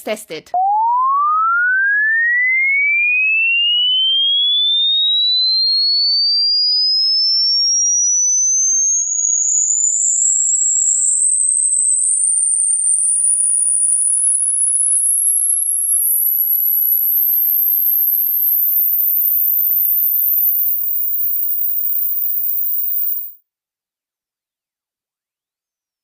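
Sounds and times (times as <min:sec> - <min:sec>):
sine tone sweeping upward: 0:00.6 - 0:23.4.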